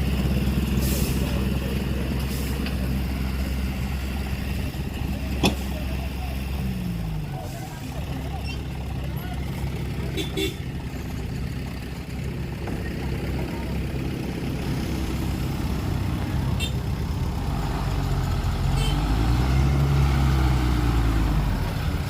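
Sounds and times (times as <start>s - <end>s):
heavy diesel engine revving: 0.0s - 22.0s.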